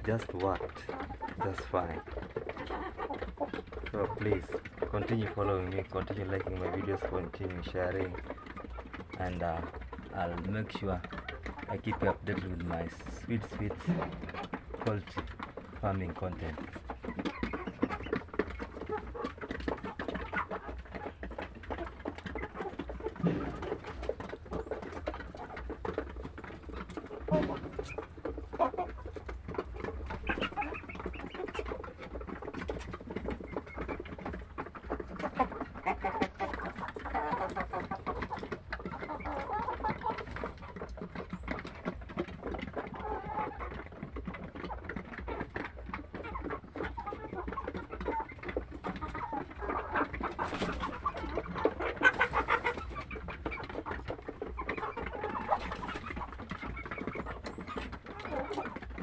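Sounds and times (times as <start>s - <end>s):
hens clucking and calling: 0.0s - 59.0s.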